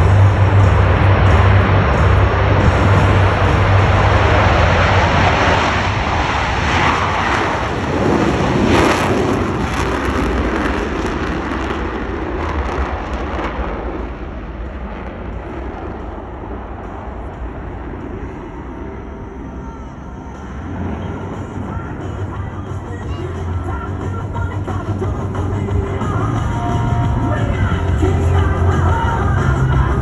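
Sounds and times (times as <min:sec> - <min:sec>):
jets roaring in afterburner: 0:00.0 - 0:30.0.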